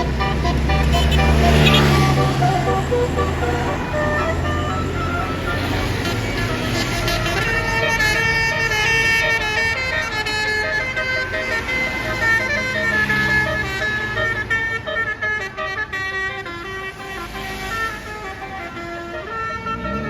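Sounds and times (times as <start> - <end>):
bus engine rumble: 0.0 - 20.0
multi-tone bus air horns: 0.0 - 20.0.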